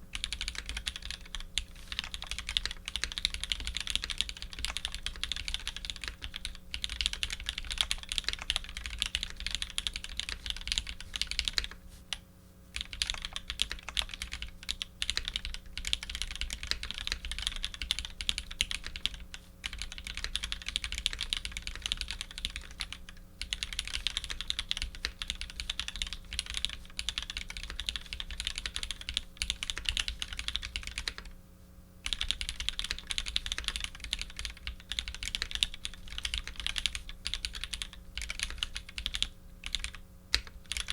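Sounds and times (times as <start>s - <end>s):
mechanical keyboard typing: 0.1s - 11.8s, 12.8s - 31.3s, 32.0s - 40.9s.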